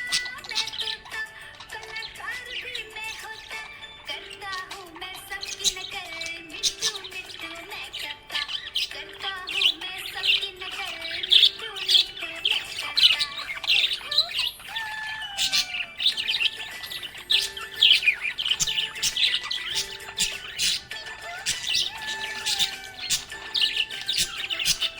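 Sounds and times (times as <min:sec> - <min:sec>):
budgerigar chirping and warbling: 0:00.0 - 0:24.9.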